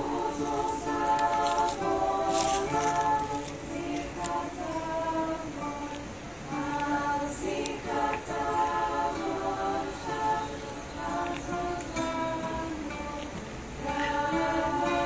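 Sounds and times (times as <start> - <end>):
girls' choir singing a cappella: 0.0 - 15.0.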